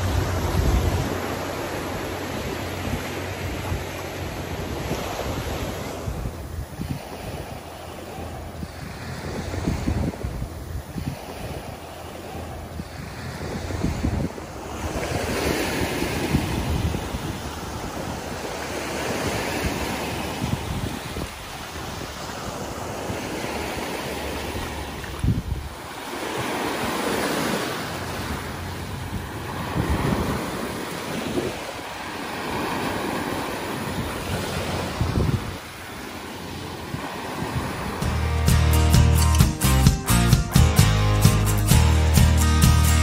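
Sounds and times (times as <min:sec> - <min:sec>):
wind buffeting the microphone: 0:00.0 - 0:38.1
surf waves breaking: 0:00.0 - 0:43.0.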